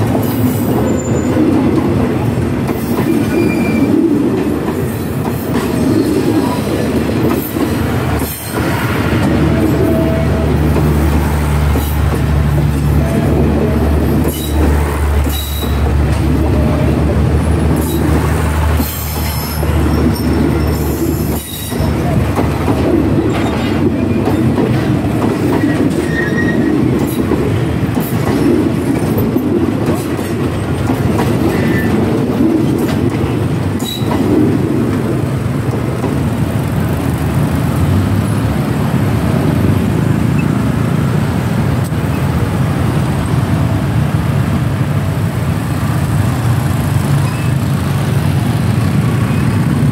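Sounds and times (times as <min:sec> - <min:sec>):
train wheels clattering over rails: 0:00.0 - 0:49.9.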